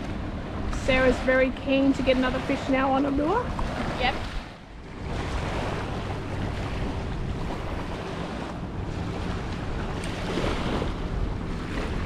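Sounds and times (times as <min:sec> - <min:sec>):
waves washing: 0:00.0 - 0:12.0
wind buffeting microphone: 0:00.0 - 0:12.0.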